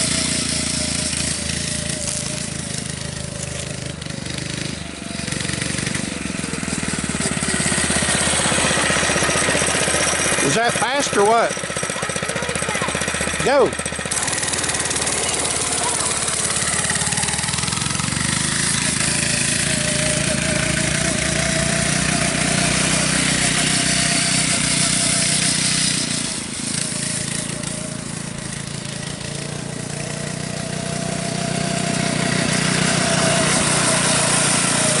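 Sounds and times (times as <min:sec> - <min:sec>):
go-kart engine running: 0:00.0 - 0:35.0.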